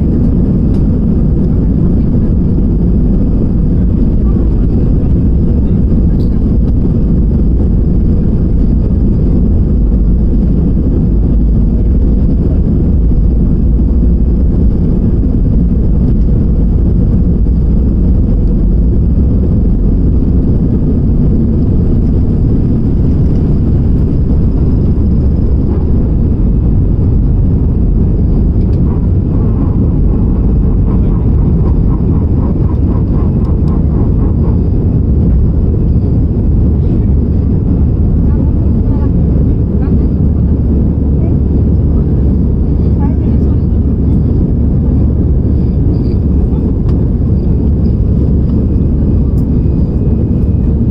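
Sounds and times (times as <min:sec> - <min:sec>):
airliner cabin roar: 0:00.0 - 0:50.9.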